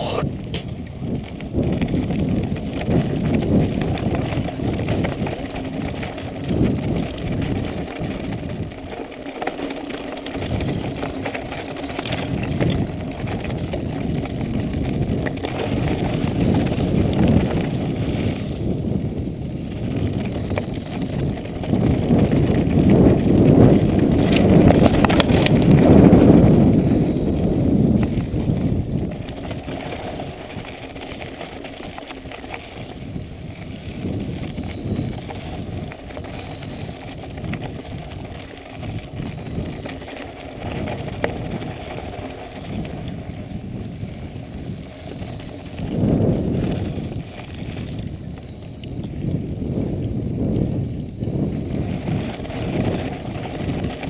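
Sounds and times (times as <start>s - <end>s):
wind on microphone: 0.0s - 9.0s, 10.3s - 54.0s
tyres rumbling on dirt: 0.0s - 48.6s
bike clattering over bumps: 0.0s - 49.9s.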